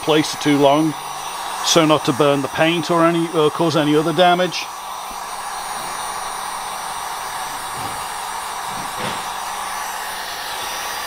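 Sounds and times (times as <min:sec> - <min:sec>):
heat gun blowing air: 0:00.0 - 0:11.0.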